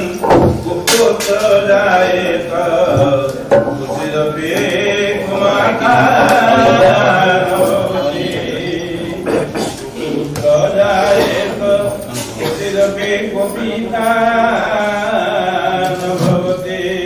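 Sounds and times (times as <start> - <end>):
voices chanting a hymn: 0.0 - 17.0.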